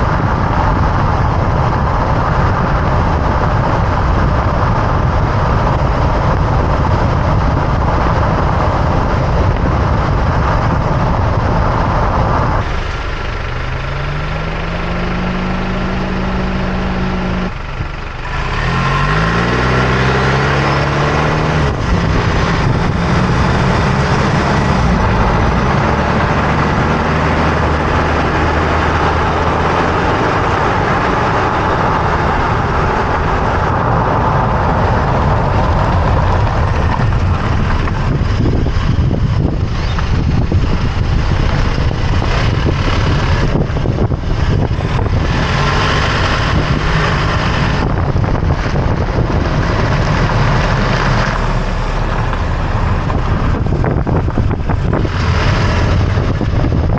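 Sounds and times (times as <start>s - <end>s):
truck engine: 0.0s - 56.9s
tyre and wind road noise: 0.0s - 56.9s.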